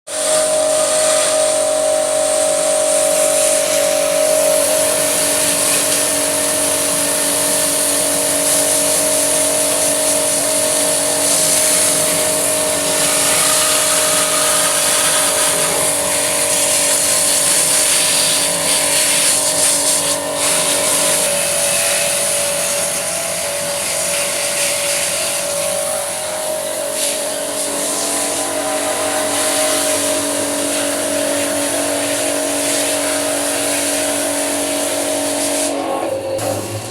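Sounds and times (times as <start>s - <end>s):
jet washer motor whine: 0.1s - 36.9s.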